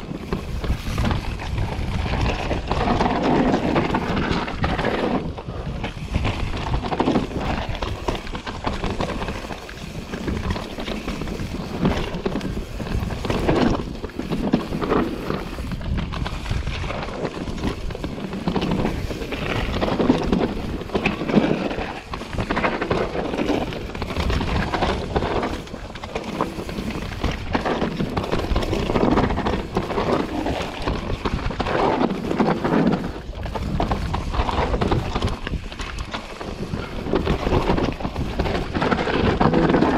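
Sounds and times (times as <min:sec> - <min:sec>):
bike rattling: 0:00.0 - 0:39.9
bike tyres rolling over dirt: 0:00.0 - 0:39.9
wind buffeting microphone: 0:00.0 - 0:39.9.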